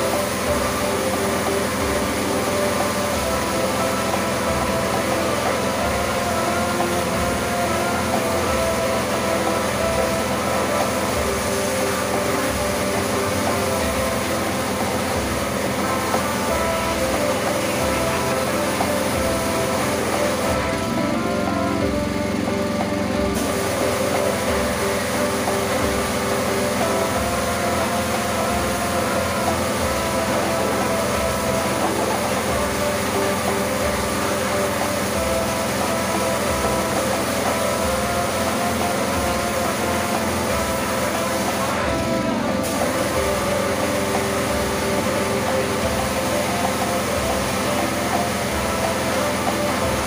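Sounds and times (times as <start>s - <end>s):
pressure washer pump droning: 0.0s - 50.0s
water jet hissing on bodywork: 0.0s - 50.0s.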